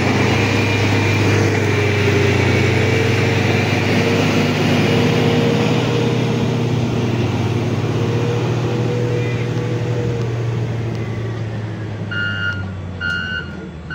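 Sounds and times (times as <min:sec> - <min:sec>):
diesel engine running: 0:00.0 - 0:13.9.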